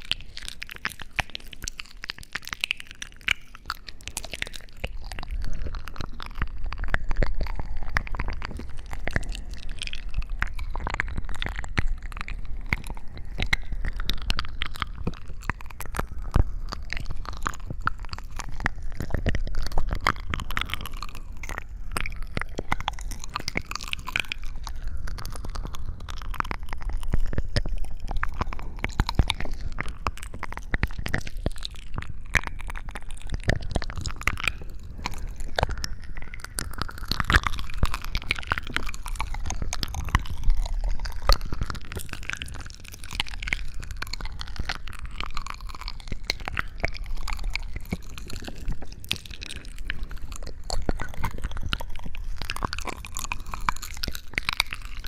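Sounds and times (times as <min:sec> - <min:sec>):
close crunching and crackling: 0:00.0 - 0:55.0.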